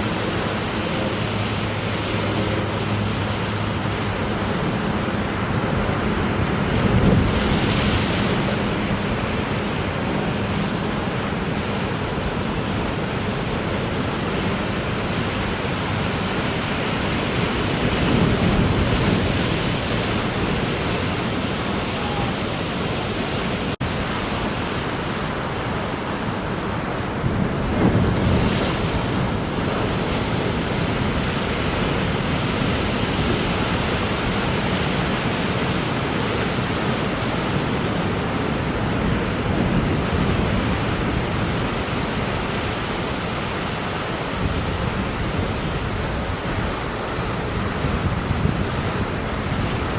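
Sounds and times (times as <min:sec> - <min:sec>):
ocean surf breaking: 0:00.0 - 0:49.9
wind rumbling on microphone: 0:00.0 - 0:49.9.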